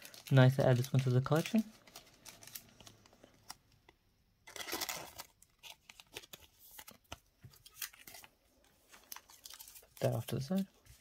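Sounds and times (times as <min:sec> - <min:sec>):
plastic card sleeve crinkling: 0:00.0 - 0:11.0.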